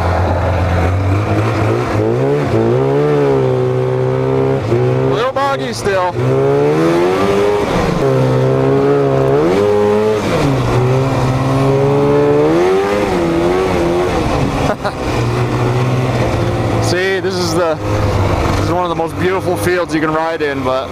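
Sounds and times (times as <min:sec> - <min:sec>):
snowmobile engine revving: 0:00.0 - 0:20.9.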